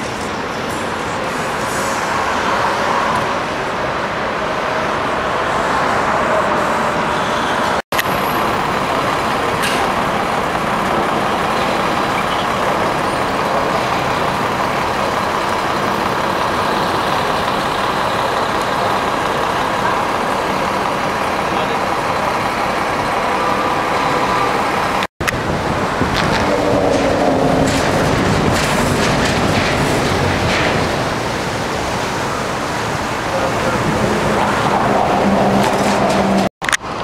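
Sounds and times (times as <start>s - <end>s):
bus passing: 0.0s - 37.0s
city street traffic: 0.0s - 37.0s.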